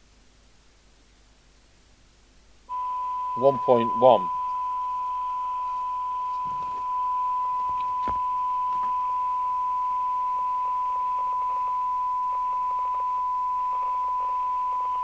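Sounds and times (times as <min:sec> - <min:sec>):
steady test tone through radio: 0:02.7 - 0:15.0.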